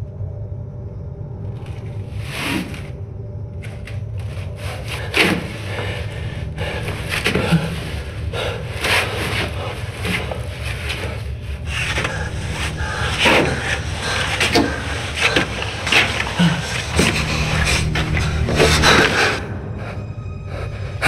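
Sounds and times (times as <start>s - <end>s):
steady low rumble: 0.0s - 21.0s
body scraping against duct: 1.8s - 3.0s, 3.6s - 19.4s.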